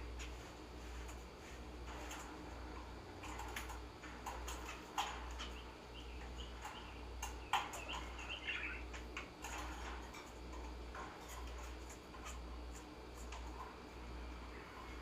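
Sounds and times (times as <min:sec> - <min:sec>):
steady low hum: 0:00.0 - 0:15.0
small birds chirping: 0:01.9 - 0:15.0.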